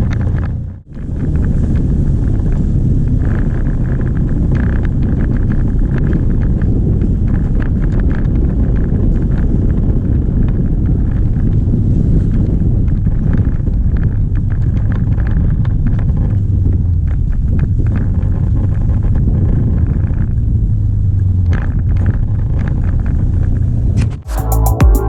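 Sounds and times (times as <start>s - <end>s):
wind rumble on microphone: 0.0s - 24.2s
moving vehicle running noise: 0.0s - 24.7s.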